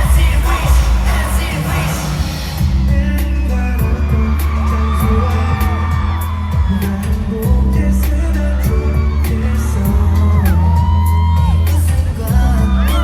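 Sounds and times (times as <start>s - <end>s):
group singing live: 0.0s - 13.0s
pop backing track: 0.0s - 13.0s.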